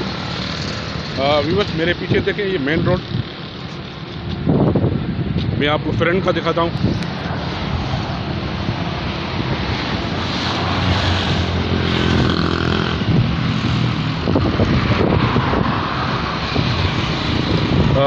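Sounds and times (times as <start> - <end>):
traffic going past: 0.0 - 18.0
vehicle engine hum: 0.0 - 18.0
wind buffeting microphone: 1.0 - 18.0.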